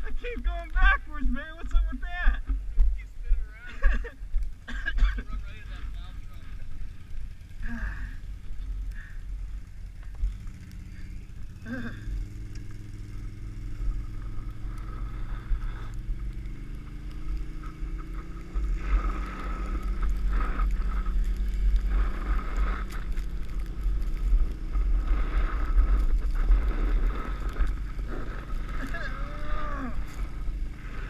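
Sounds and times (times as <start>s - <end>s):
atv engine running: 0.0s - 31.0s
wind rumbling on microphone: 0.0s - 31.0s.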